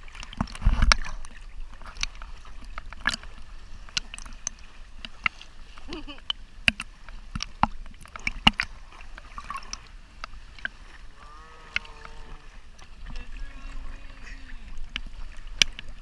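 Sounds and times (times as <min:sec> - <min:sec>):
kayak paddle knocks and splashing: 0:00.0 - 0:16.0.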